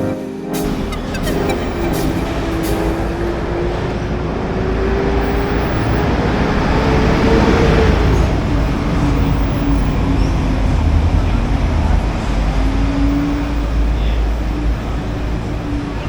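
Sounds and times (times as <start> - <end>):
street traffic noise: 0.6 - 16.0
vehicle engine hum passing: 0.6 - 16.0.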